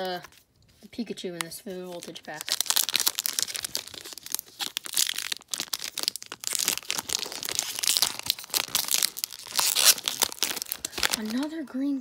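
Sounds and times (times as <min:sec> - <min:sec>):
foil wrapper crinkling and tearing: 0:01.5 - 0:11.5.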